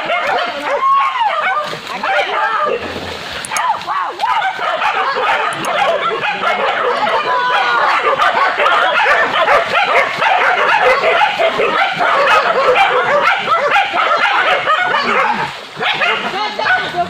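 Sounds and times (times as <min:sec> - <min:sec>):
pack of dogs barking and yelping: 0:00.0 - 0:17.0.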